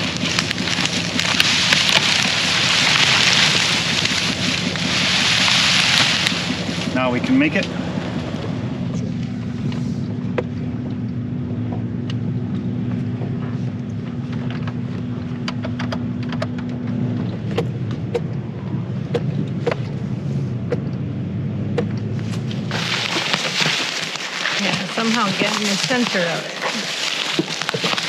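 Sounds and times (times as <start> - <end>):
low hum: 0.0 - 28.0
truck engine drone: 0.0 - 28.0.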